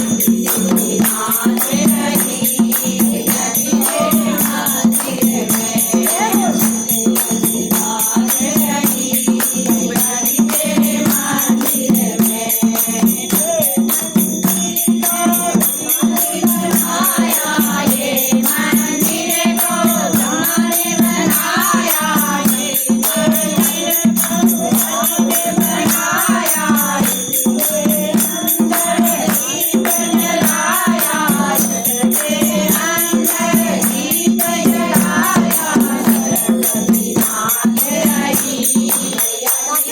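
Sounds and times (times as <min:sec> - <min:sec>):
group chanting: 0:00.0 - 0:39.9
jingling percussion: 0:00.0 - 0:39.9.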